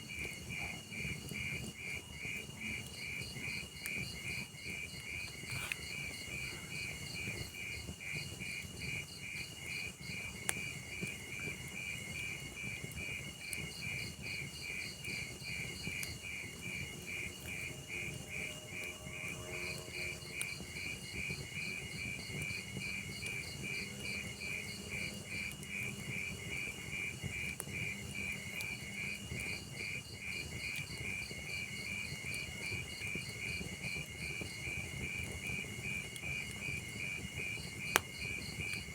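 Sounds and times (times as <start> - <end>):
faint fire crackle: 0.0 - 38.9
low fire rumble: 0.0 - 38.9
crickets chirping: 0.1 - 38.9.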